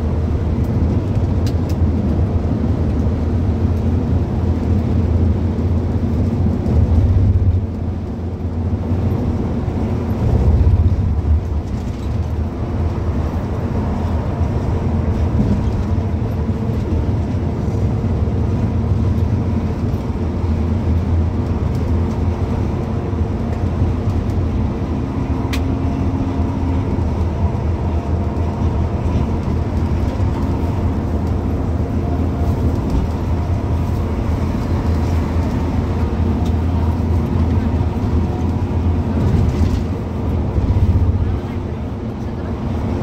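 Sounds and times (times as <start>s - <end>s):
vehicle engine drone and road noise: 0.0s - 43.0s.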